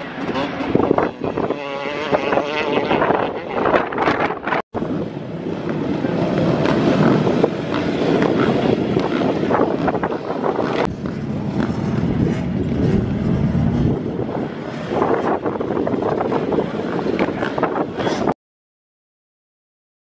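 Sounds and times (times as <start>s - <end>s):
motorcycle and quad bike engines: 0.0s - 18.4s
wind buffeting microphone: 0.0s - 18.4s.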